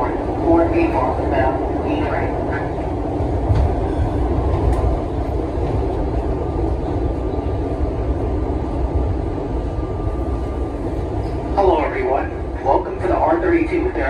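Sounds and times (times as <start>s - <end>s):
subway wheels rumbling on rail: 0.0s - 14.0s.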